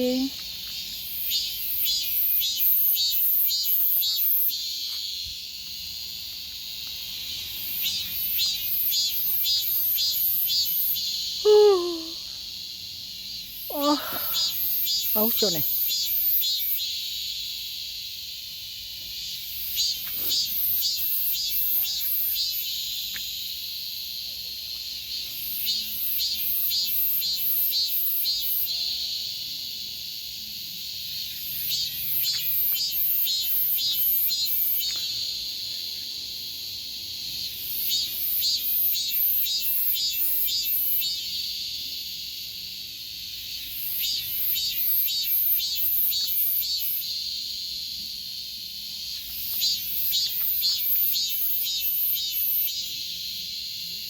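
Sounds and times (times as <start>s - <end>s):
cicada pulsed song: 0.0s - 54.0s
high cicada chorus: 0.0s - 54.0s.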